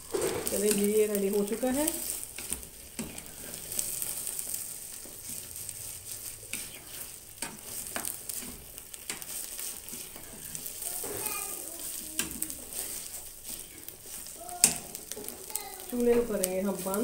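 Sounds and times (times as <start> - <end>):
food sizzling: 0.0 - 17.0
wooden spatula scraping pan: 0.0 - 17.0.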